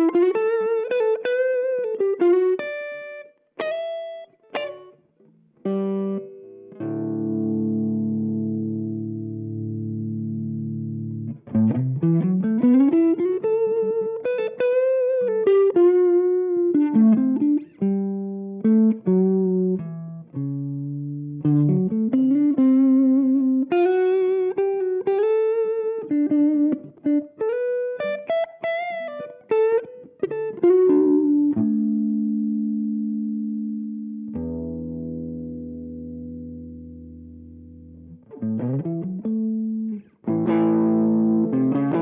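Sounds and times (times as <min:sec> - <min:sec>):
overdriven electric guitar: 0:00.0 - 0:42.0.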